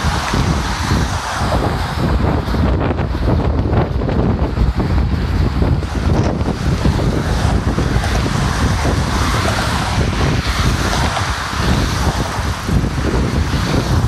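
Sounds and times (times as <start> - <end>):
passing car traffic: 0.0 - 14.0
wind buffeting microphone: 0.0 - 14.0.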